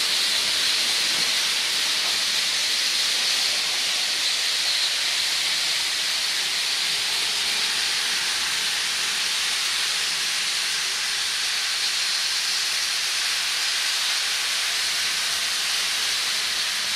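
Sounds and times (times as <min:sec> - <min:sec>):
toy trains whirring: 0:00.0 - 0:16.9.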